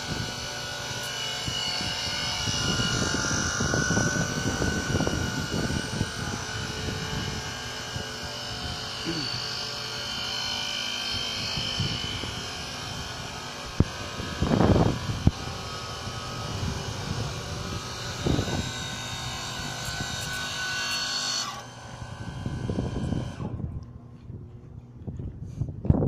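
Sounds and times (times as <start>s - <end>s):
electrical buzz and hum: 0.0s - 26.0s.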